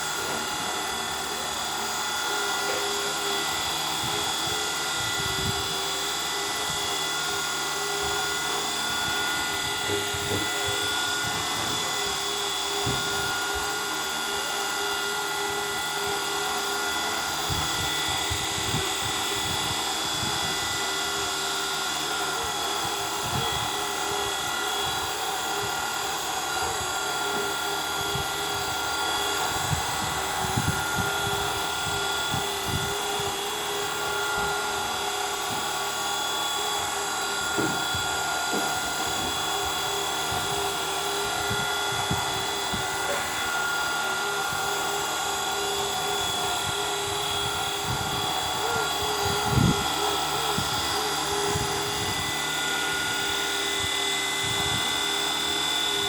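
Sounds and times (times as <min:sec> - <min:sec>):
rc helicopter motor whining: 0:00.0 - 0:56.0.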